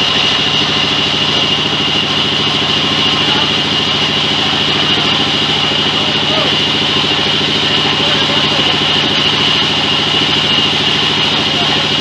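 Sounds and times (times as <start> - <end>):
sawmill engine thrumming: 0.0 - 12.0
steady high whine: 0.0 - 12.0.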